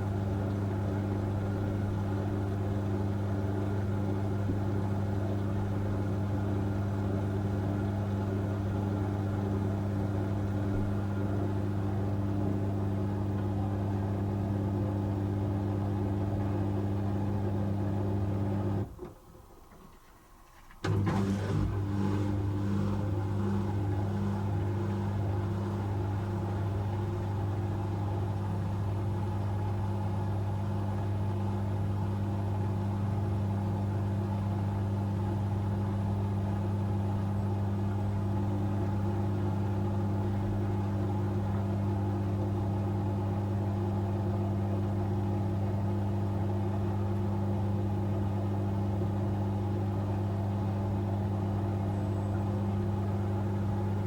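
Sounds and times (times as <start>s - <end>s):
washing machine spin hum: 0.0s - 54.0s.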